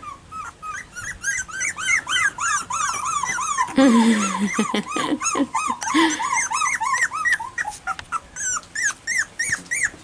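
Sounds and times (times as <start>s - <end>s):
puppies squealing: 0.0s - 10.0s
puppy whining: 0.0s - 10.0s.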